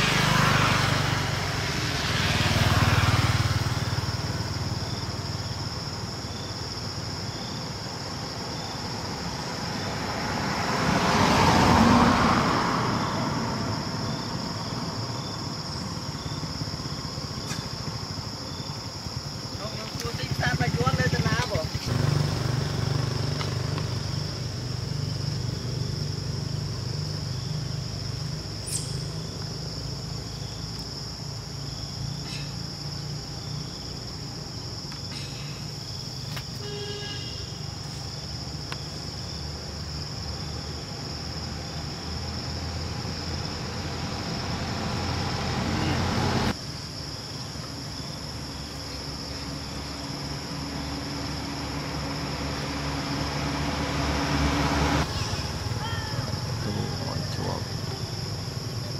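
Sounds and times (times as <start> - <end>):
high drone of insects: 0.0 - 58.9.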